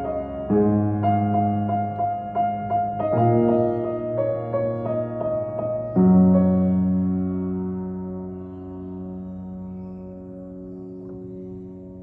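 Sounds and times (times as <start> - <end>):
slow piano ballad: 0.0 - 12.0.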